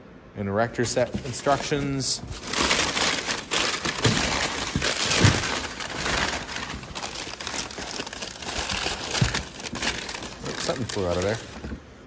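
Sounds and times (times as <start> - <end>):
packing paper crinkling: 0.8 - 11.8.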